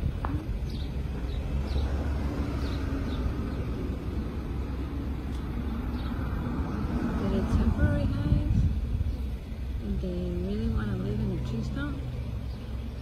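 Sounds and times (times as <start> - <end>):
bees buzzing: 0.0 - 13.0
steady low rumble: 0.0 - 13.0.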